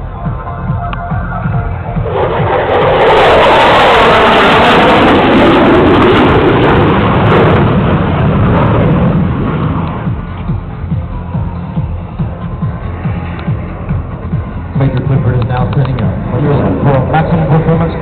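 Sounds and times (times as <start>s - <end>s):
fighter jet passing overhead: 1.4s - 18.0s.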